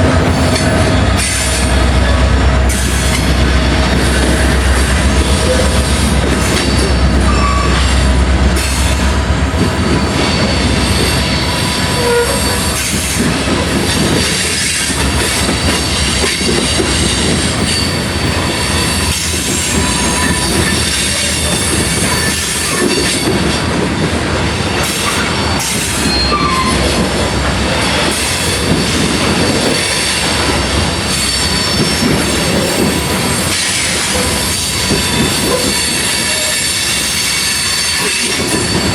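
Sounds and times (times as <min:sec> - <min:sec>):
deep locomotive rumble: 0:00.0 - 0:38.9
wheels squealing on rails: 0:00.2 - 0:38.9.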